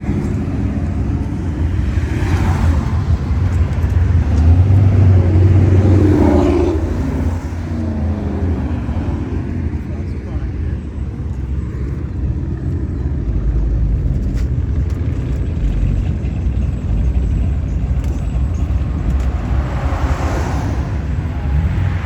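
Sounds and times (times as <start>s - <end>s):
car engine rumbling past: 0.0s - 22.0s.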